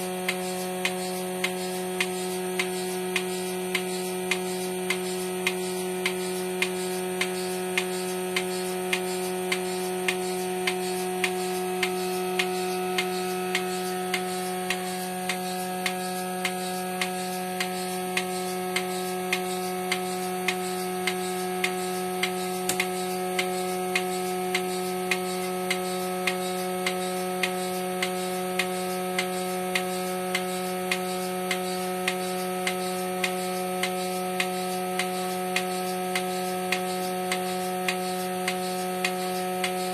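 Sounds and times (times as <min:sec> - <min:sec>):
milking pulsator clicking: 0:00.0 - 0:39.9
vacuum pump motor humming: 0:00.0 - 0:39.9.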